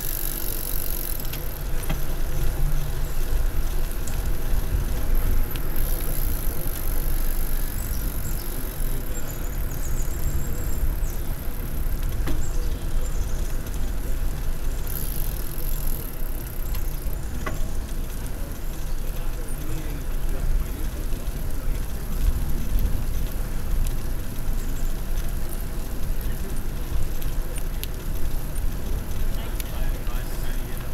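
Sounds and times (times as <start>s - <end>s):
sharp clicks from bicycle: 0.0s - 30.9s
tyre noise on asphalt: 0.0s - 30.9s.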